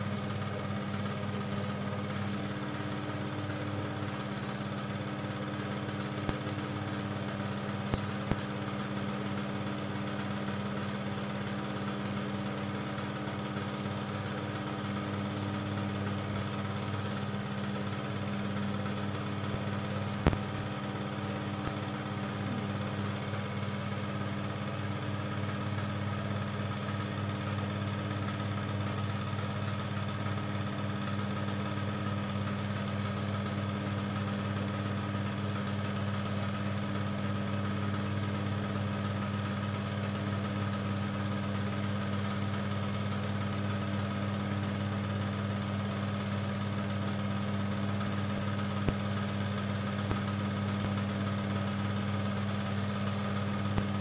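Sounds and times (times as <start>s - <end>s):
film projector hum: 0.0s - 54.0s.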